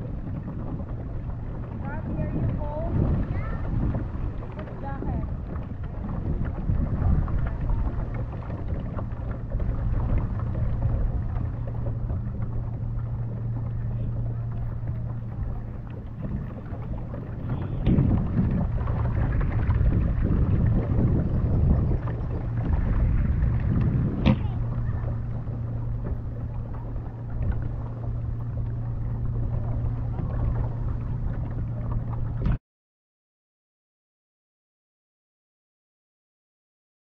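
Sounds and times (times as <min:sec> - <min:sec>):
wind rumbling on microphone: 0:00.0 - 0:32.6.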